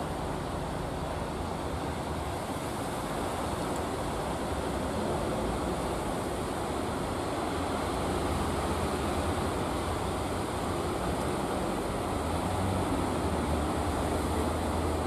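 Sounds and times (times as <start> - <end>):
sea surf breaking on beach: 0.0 - 15.0.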